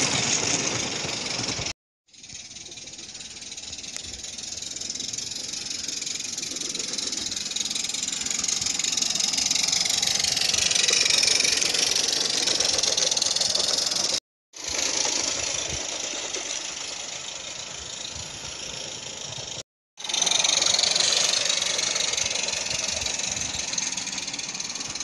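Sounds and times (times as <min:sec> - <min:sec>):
steam hiss: 0:00.0 - 0:25.0
wheels rattling on rail: 0:00.0 - 0:25.0.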